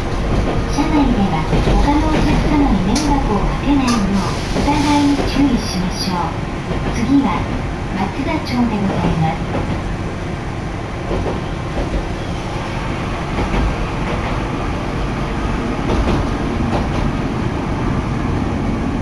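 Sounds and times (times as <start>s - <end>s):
streetcar rumbling on track: 0.0s - 19.0s.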